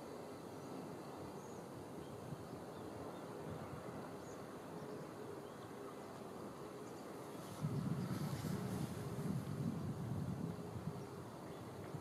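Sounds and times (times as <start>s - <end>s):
distant town hum: 0.0s - 12.0s.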